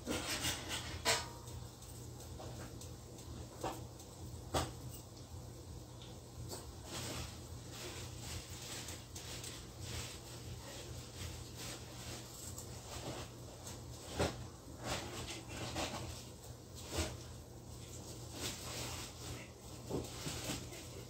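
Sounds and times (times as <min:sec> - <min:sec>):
food frying with crackles and pops: 0:00.0 - 0:21.0.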